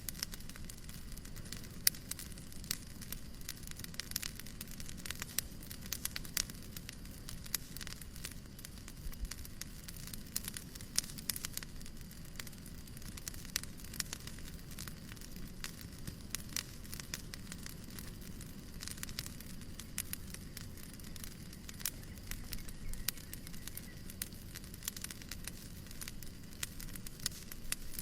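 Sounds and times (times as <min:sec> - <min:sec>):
fireplace crackling and popping: 0:00.0 - 0:28.0
low rumble of burning: 0:00.0 - 0:28.0.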